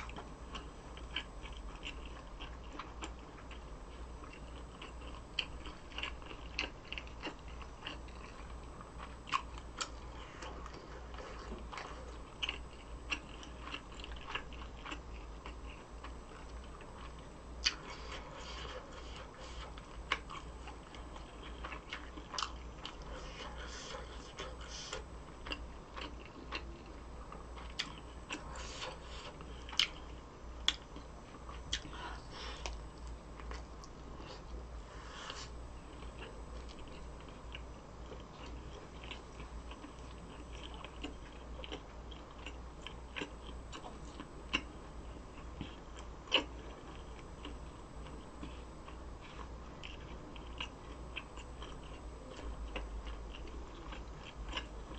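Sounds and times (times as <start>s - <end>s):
chewing and biting food: 0.0s - 54.9s
steady low hum: 0.0s - 54.9s.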